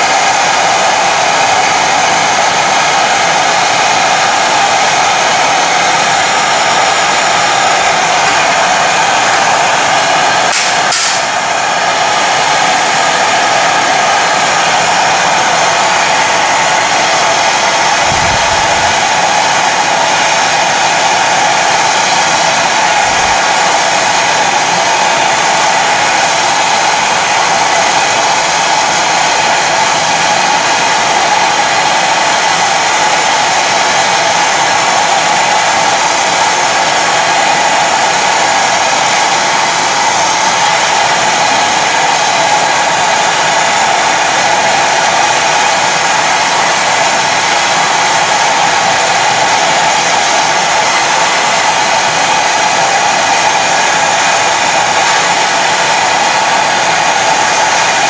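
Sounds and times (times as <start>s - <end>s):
sandblaster air jet hissing: 0.0s - 58.0s.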